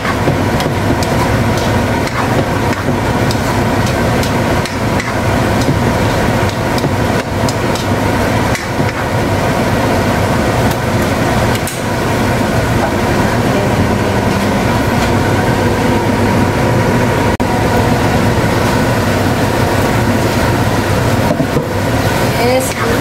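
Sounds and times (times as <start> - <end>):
mechanical whirring hum: 0.0 - 23.0.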